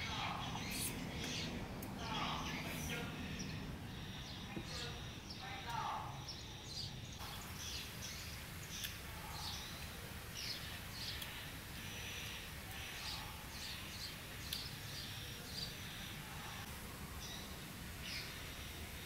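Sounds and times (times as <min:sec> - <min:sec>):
birds chirping: 0:00.0 - 0:19.0
low background hum: 0:00.0 - 0:19.0.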